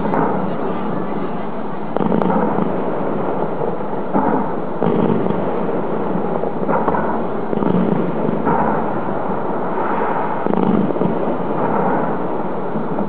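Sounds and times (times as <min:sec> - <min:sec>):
distant fireworks booming: 0:00.0 - 0:13.0.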